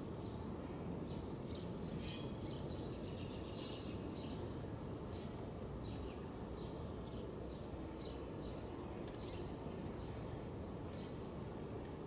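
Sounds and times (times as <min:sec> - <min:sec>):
small birds chirping: 0:00.1 - 0:11.7.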